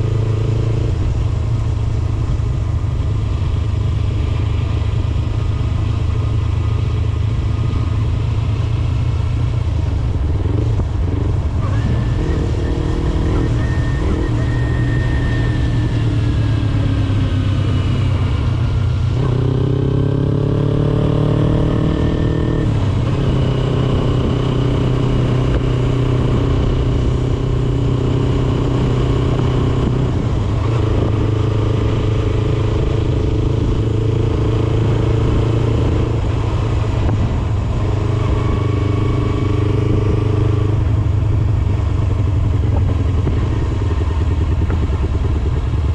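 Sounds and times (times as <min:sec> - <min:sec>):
motorcycle engine being ridden: 0:00.0 - 0:45.9.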